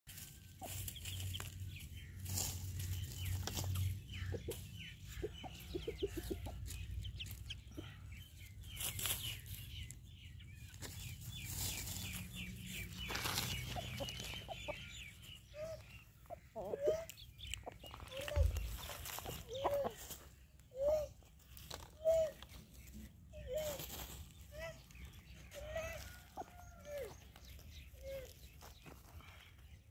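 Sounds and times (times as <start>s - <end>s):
chickens clucking: 0.1s - 29.8s
scratching and pecking in dirt: 0.1s - 29.9s.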